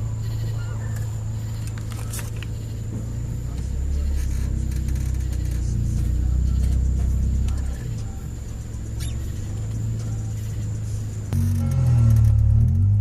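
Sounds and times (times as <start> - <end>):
car engine hum from inside cabin: 0.0 - 13.0.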